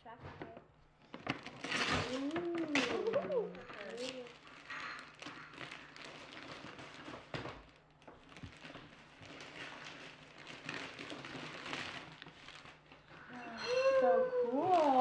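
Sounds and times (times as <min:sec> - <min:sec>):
wrapping paper rustling: 0:01.0 - 0:15.0.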